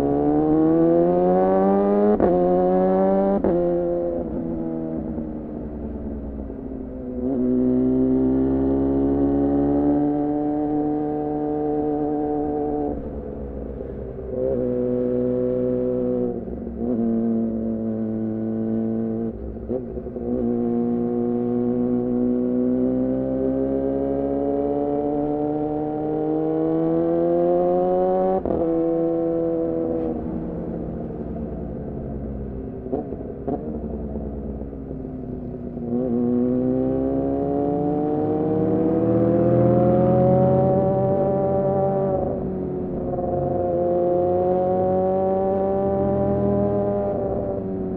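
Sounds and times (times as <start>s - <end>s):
motorcycle engine revving: 0.0s - 5.4s, 7.0s - 47.9s.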